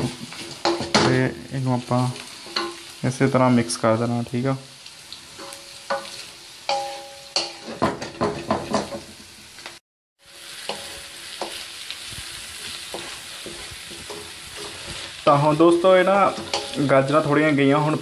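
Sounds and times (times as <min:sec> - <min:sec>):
wooden spatula scraping a wok: 0:00.0 - 0:04.1, 0:05.2 - 0:17.5
vegetables sizzling in hot oil: 0:00.0 - 0:18.0.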